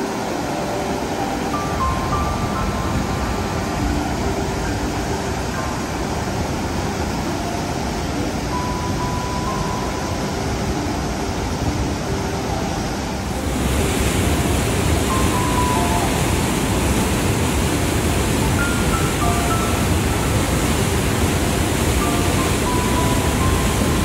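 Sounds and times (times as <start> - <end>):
faint sparse music notes: 0.0 - 24.0
waterfall rushing: 0.0 - 24.0.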